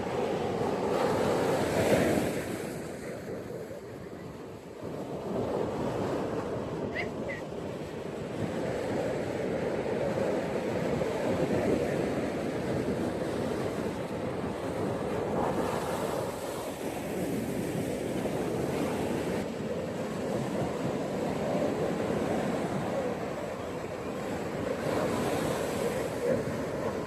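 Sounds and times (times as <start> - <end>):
ocean waves washing onto beach: 0.0 - 27.0.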